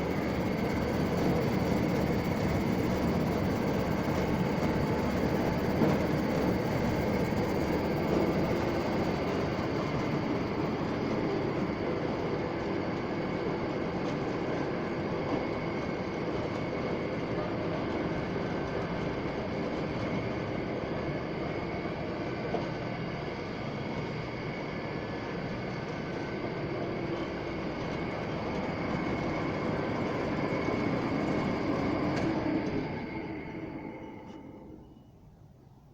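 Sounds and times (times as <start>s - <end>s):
thin continuous whine: 0.0s - 35.9s.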